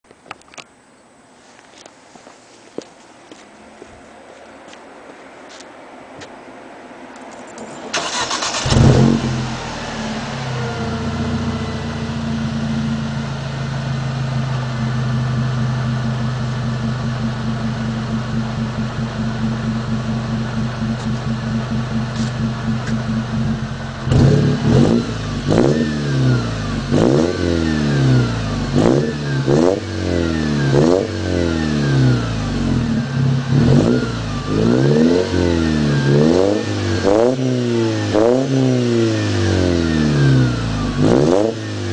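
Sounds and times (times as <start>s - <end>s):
car engine idling and revving: 6.8s - 41.9s.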